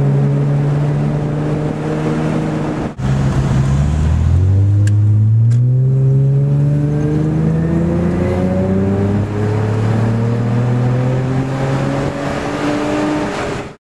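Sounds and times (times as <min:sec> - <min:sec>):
car engine accelerating: 0:00.0 - 0:13.8.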